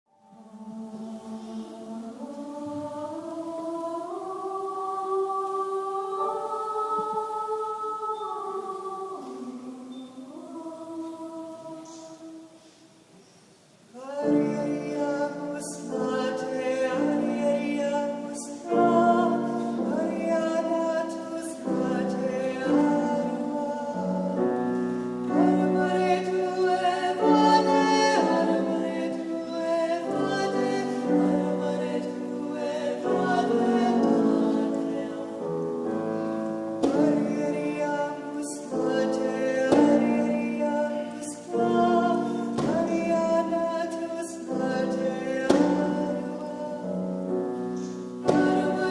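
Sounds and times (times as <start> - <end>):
choir singing in harmony: 0.2 - 12.7, 14.0 - 48.9.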